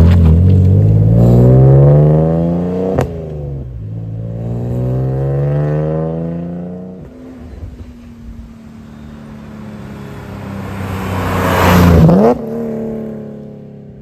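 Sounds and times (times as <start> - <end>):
car engine accelerating hard: 0.0 - 13.7.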